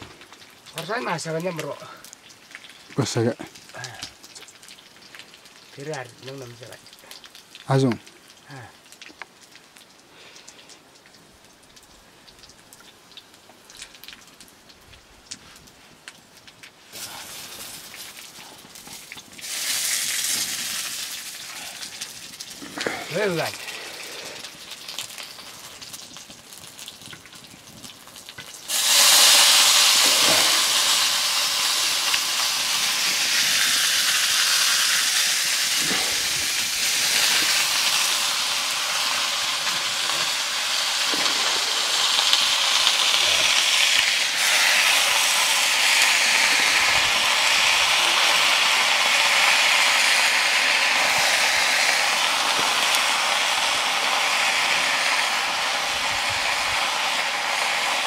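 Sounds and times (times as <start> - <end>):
greens sizzling in hot oil: 0.0 - 58.0.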